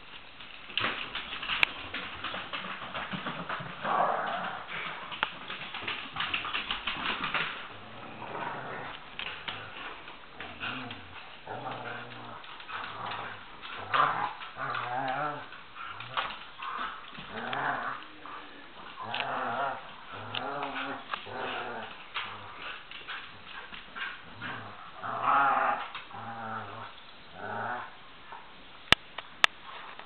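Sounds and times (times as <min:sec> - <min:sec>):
dogs play-growling: 0:00.8 - 0:28.6.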